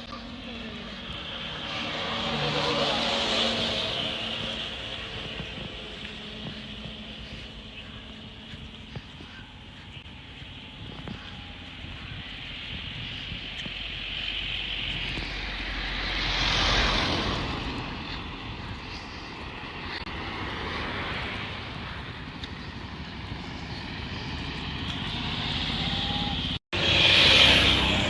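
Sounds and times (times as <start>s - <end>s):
vehicles passing on road: 0.0s - 28.0s.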